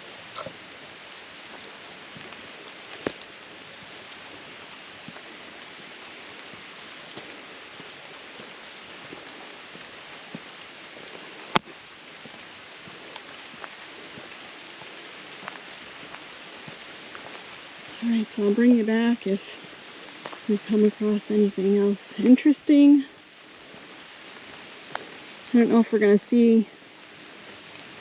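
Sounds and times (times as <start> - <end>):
light rain hissing: 0.0 - 28.0.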